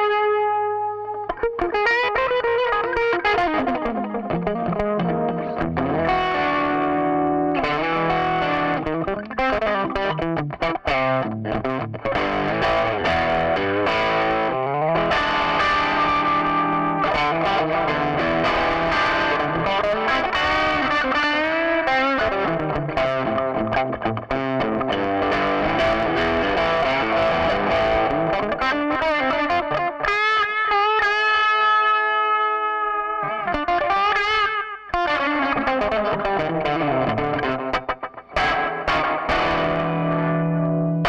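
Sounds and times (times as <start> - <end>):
electric guitar lead line: 0.0 - 41.0.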